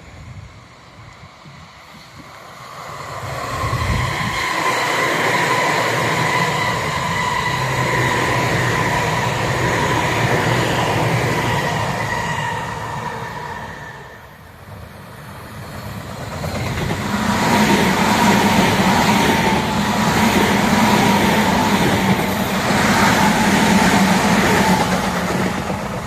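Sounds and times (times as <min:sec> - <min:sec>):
electric train passing: 0:00.0 - 0:26.0.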